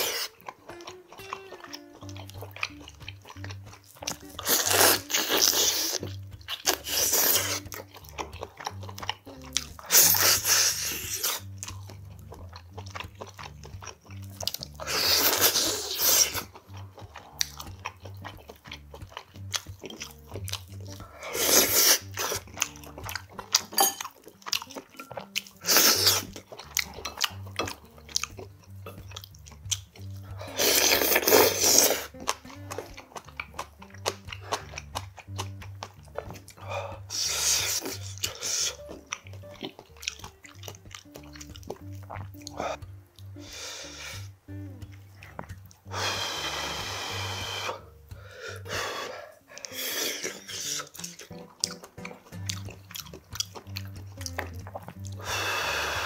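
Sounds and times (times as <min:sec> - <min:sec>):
person chewing meat: 0:00.0 - 0:56.0
wet mouth sounds: 0:00.0 - 0:56.0.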